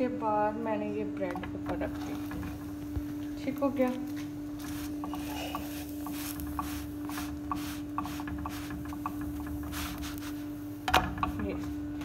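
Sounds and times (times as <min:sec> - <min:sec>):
steady hum: 0:00.0 - 0:12.0
dough crackling in a pan: 0:01.2 - 0:12.0.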